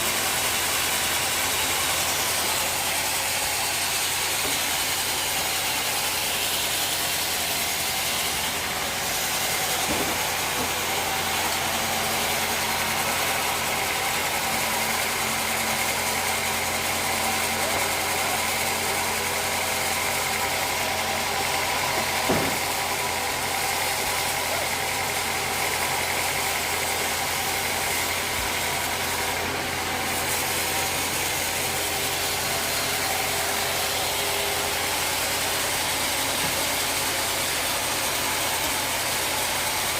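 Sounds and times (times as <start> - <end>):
sawmill machinery motor hum: 0.0 - 39.9.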